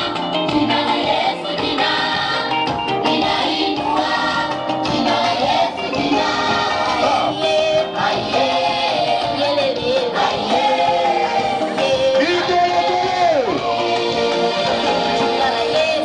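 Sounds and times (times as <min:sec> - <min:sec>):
gospel choir singing: 0:00.0 - 0:16.0
instrumental backing: 0:00.0 - 0:16.0.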